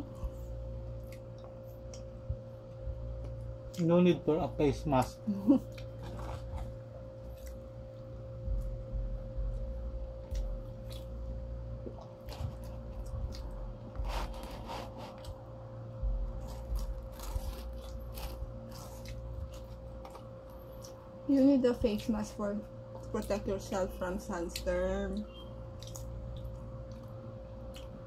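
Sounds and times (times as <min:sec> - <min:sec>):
people chewing food: 0:00.0 - 0:03.9, 0:05.0 - 0:28.0
steady hum: 0:00.0 - 0:28.0.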